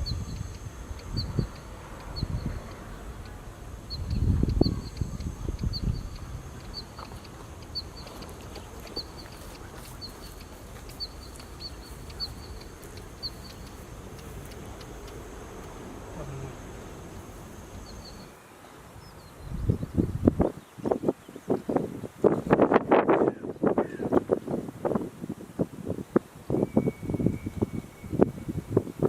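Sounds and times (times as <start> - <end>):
low wind rumble: 0.0 - 29.0.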